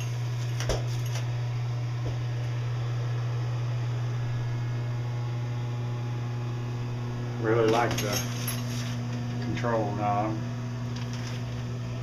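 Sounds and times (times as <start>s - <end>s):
exhaust fan humming: 0.0s - 12.0s.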